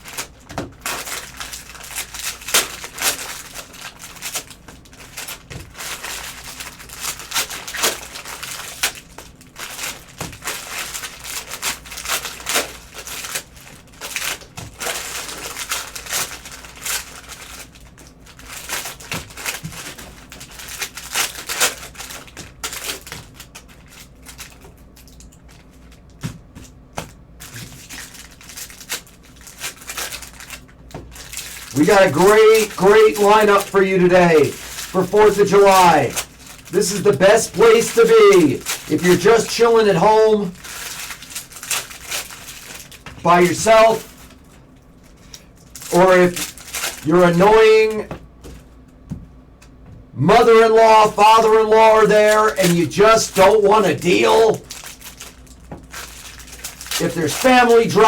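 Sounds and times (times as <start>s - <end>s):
cellophane wrappers crinkling: 0.0s - 49.0s, 50.3s - 58.0s.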